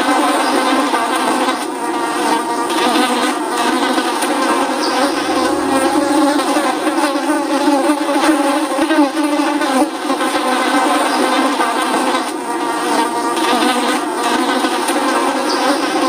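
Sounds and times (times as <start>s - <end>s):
flies buzzing: 2.0s - 16.0s.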